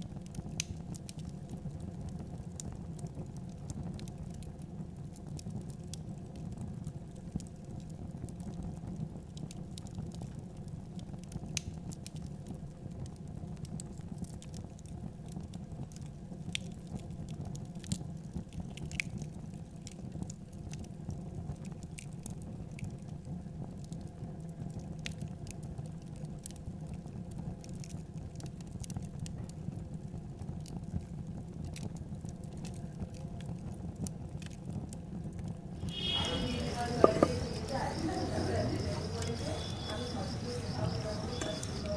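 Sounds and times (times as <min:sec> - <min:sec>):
fire burning with crackles: 0:00.0 - 0:41.9.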